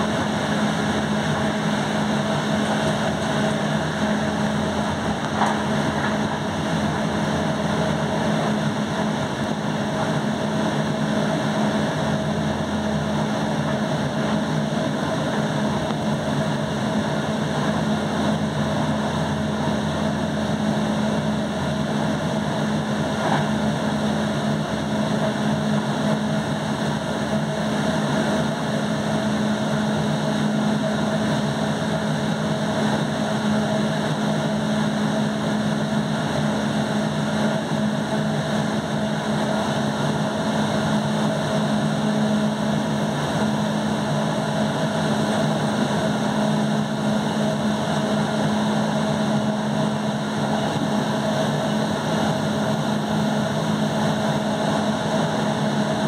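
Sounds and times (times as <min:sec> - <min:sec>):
passenger train rolling at speed: 0:00.0 - 0:56.0.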